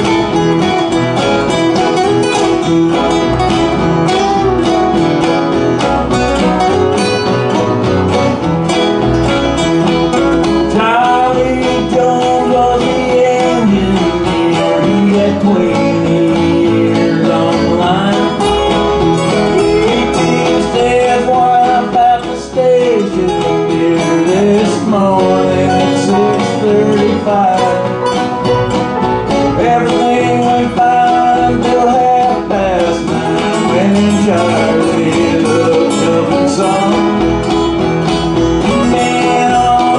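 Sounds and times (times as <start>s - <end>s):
harmonica bending notes: 0.0s - 21.6s, 23.2s - 39.9s
banjo: 0.0s - 39.9s
strummed acoustic guitars: 0.0s - 39.9s.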